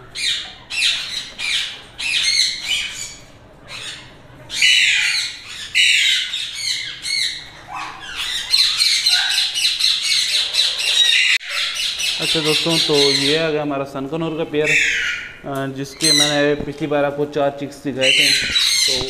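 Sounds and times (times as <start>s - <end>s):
parakeet squawking: 0.0s - 13.6s, 14.6s - 16.5s, 18.0s - 19.0s.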